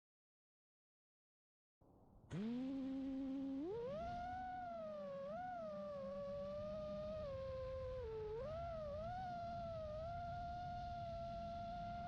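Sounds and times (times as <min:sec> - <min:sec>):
drone motors whining: 0:02.3 - 0:12.0.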